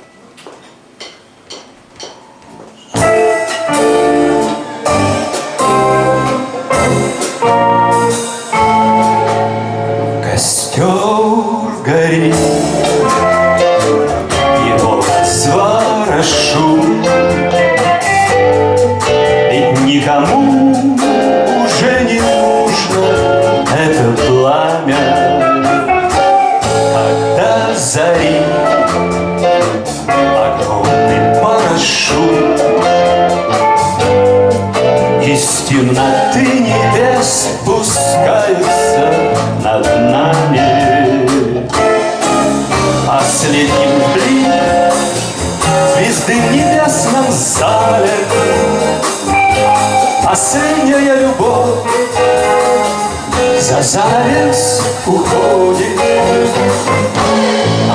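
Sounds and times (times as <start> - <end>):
bass guitar: 0.0 - 57.9
drums keeping a steady beat: 0.0 - 57.9
guitar: 0.0 - 57.9.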